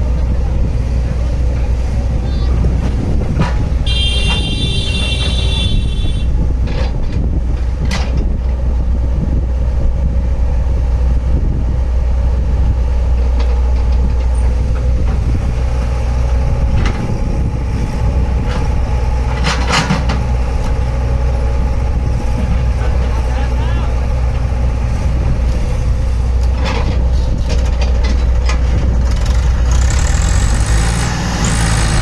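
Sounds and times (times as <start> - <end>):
heavy vehicle engine rumbling: 0.0 - 32.0.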